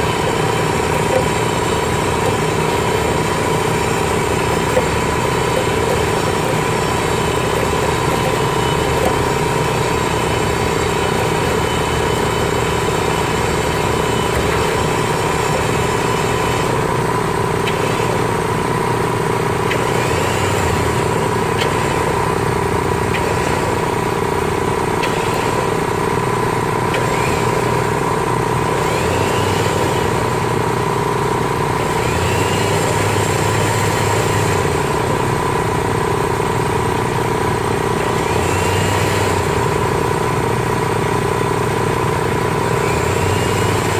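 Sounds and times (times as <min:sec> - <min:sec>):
pile-driving rig engine running: 0:00.0 - 0:43.9.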